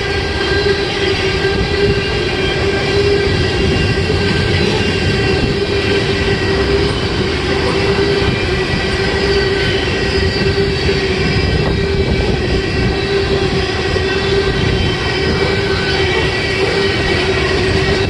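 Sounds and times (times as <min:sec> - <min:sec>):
freight train rumbling past: 0:00.0 - 0:18.0
train wheel squeal: 0:00.0 - 0:18.0.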